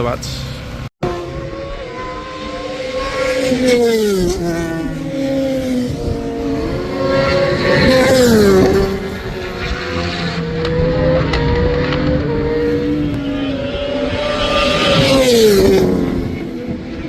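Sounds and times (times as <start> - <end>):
racing motorcycles passing: 0.4 - 17.0.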